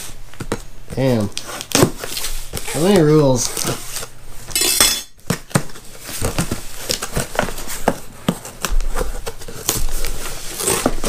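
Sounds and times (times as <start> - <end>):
cardboard scraping and rustling: 0.0 - 4.2, 5.5 - 11.0.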